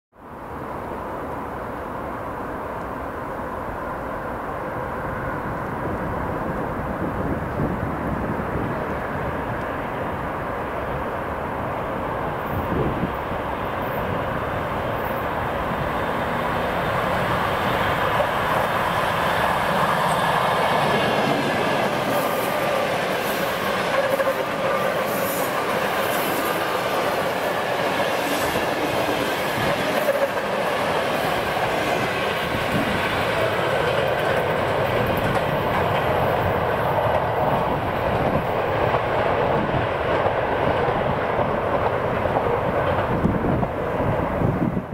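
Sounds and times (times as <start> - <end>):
train wheels rumbling on rails: 2.6 - 44.9.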